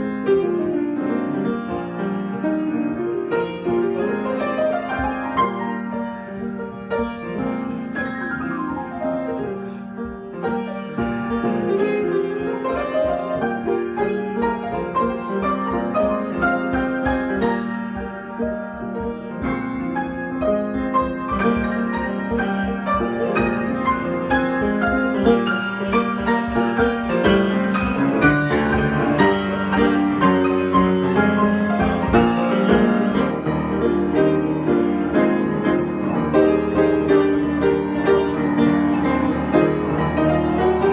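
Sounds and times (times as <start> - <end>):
improvised piano playing: 0.0 - 40.9.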